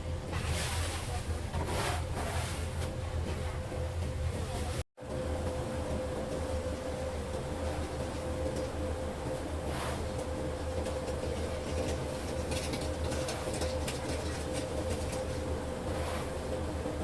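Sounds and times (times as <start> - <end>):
machine humming with steady tone: 0.0 - 17.0.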